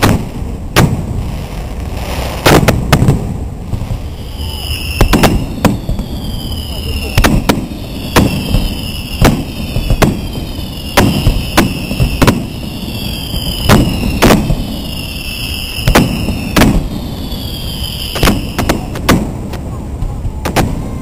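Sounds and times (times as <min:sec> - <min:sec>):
fireworks bangs echoing: 0:00.0 - 0:21.0
fireworks falling whistles: 0:00.0 - 0:21.0.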